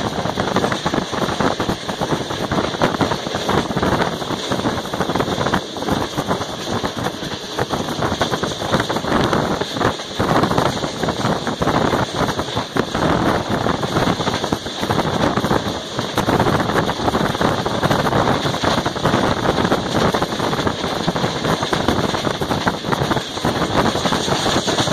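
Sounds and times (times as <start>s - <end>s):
train wheels on rails: 0.0s - 24.9s
wind rushing: 0.0s - 24.9s.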